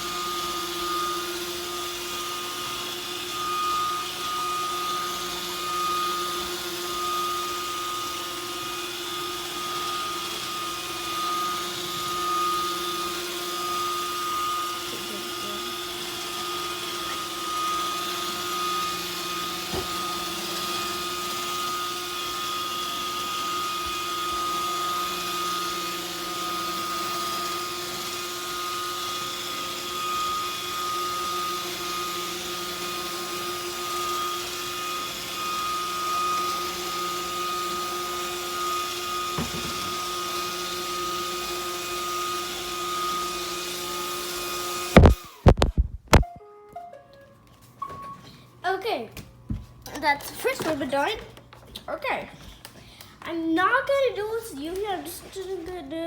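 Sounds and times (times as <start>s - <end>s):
robot vacuum whirring: 0.0s - 46.2s.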